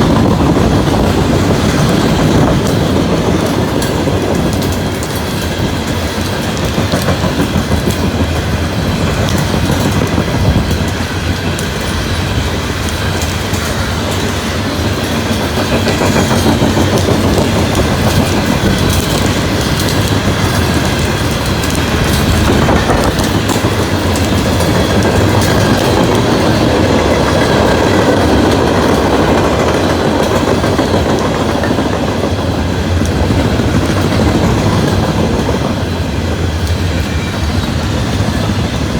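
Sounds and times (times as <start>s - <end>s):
wheels clattering over rail joints: 0.0s - 38.9s.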